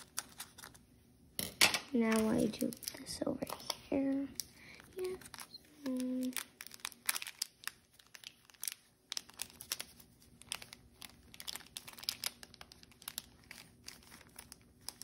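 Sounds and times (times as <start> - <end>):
foil wrapper crinkling: 0.0 - 0.8, 1.9 - 15.0.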